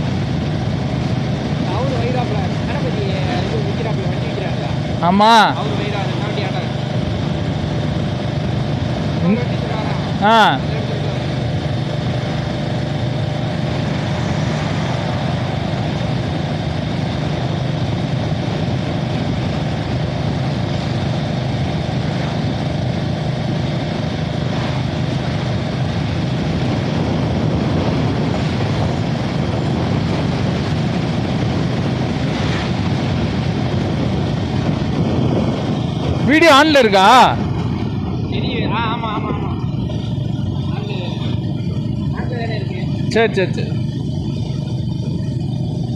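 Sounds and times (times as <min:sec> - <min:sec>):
motorcycle engine running: 0:00.0 - 0:45.9
road noise: 0:00.0 - 0:45.9.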